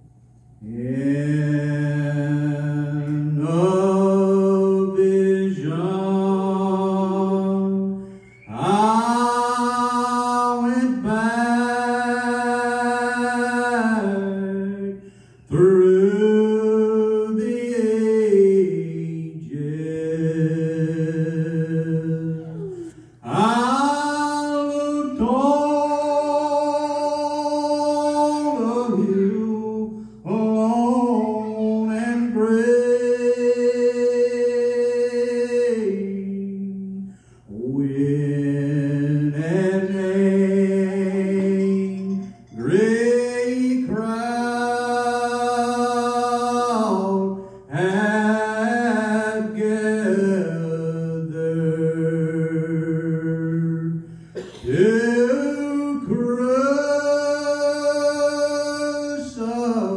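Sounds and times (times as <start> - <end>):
man singing a cappella: 0.6 - 59.9.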